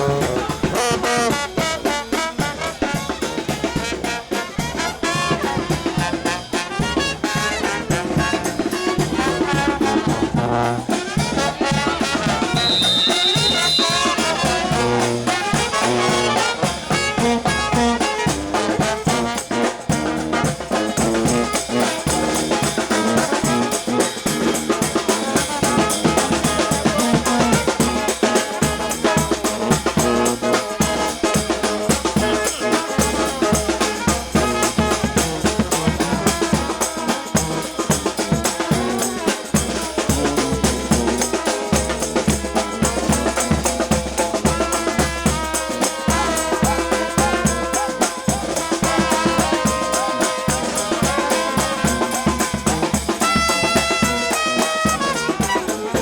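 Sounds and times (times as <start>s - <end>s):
bass drum and snare beat: 0.0s - 56.0s
trumpets and trombones: 0.0s - 56.0s.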